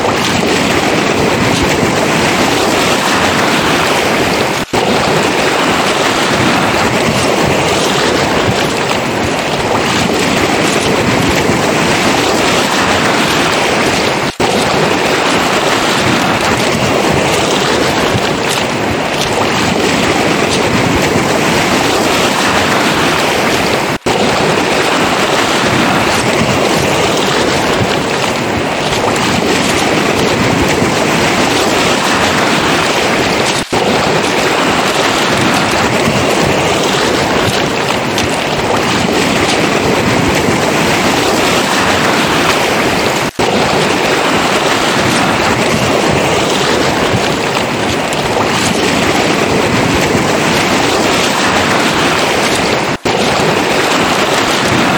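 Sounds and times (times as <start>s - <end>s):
surf on pebble beach: 0.0s - 54.9s.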